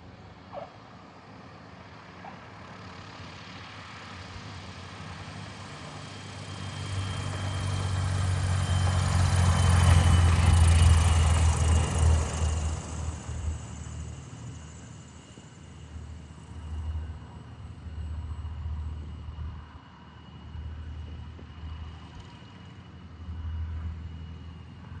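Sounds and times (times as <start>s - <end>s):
light aircraft engine rumble: 0.0s - 25.0s.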